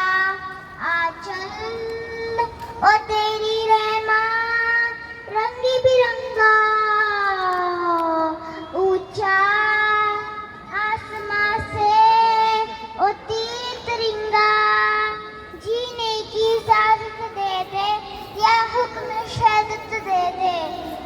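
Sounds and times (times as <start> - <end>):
girl singing unaccompanied: 0.0 - 21.0.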